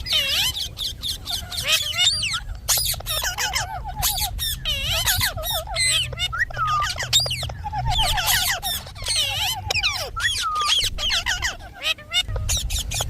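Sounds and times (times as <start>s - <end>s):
parakeet chirping and squawking: 0.0s - 13.0s.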